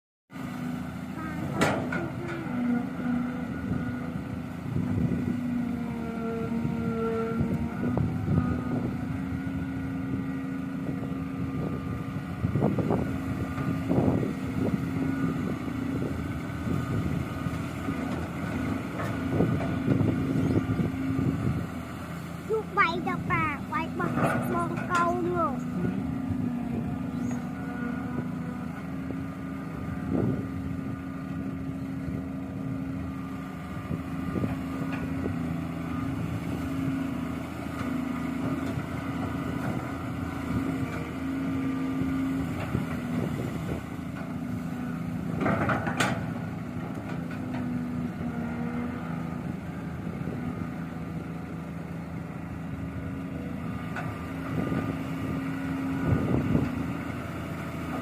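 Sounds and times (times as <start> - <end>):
excavator diesel engine running: 0.4 - 58.0.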